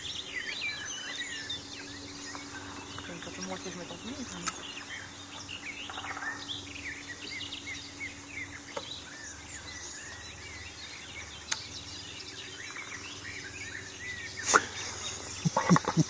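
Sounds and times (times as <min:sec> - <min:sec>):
faint low hum: 0:00.0 - 0:16.0
songbirds chirping and warbling: 0:00.0 - 0:16.0.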